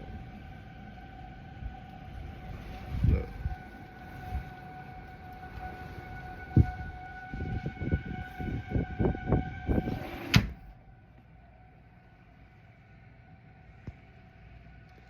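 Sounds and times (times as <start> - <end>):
warning siren steady tone: 0.0 - 13.7.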